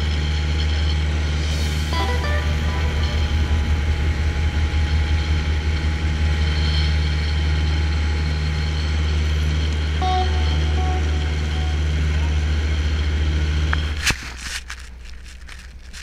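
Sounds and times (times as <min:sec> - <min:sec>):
boat engine deep drone: 0:00.0 - 0:16.0.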